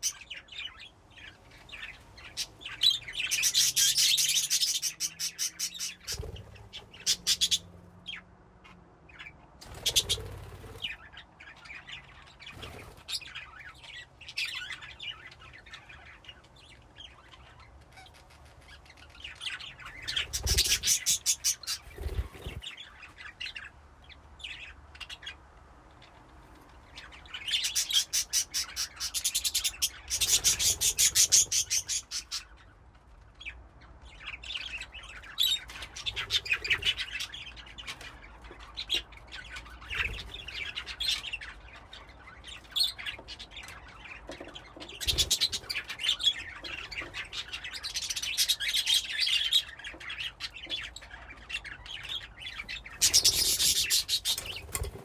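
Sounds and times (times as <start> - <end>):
budgerigars chirping and chattering: 0.0 - 8.3, 9.1 - 55.0.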